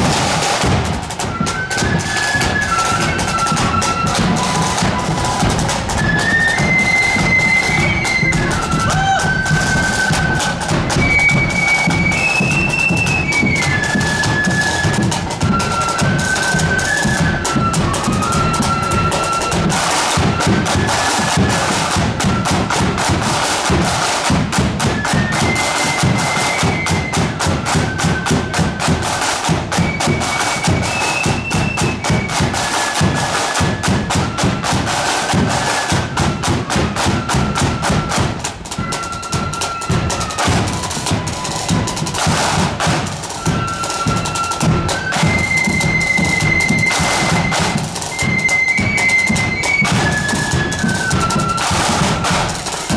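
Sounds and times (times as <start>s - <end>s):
high flute melody: 0.0s - 52.9s
rapid steady drumming: 0.0s - 52.9s.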